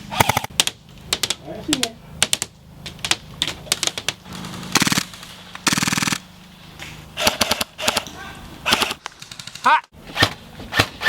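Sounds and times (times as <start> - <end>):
airsoft rifles firing: 0.1 - 6.3, 7.2 - 11.0.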